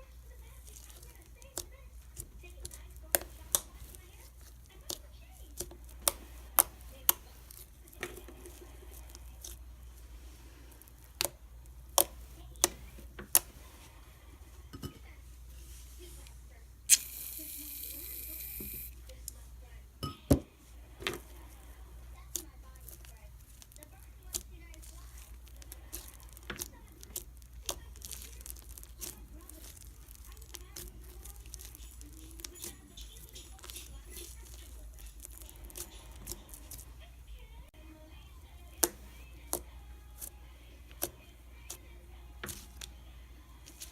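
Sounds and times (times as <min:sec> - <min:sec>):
low background hum: 0:00.0 - 0:43.9.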